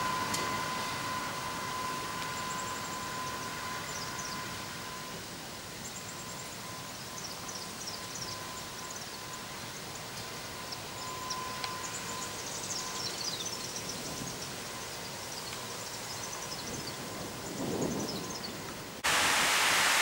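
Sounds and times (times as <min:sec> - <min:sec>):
distant diesel locomotives: 0:00.0 - 0:20.0.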